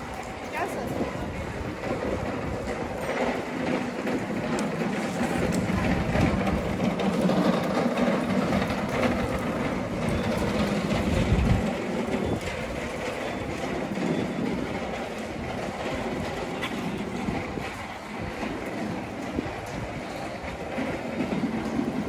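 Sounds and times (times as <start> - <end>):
rain street noise: 0.0 - 22.0
rolling rattling rumble: 0.0 - 22.0.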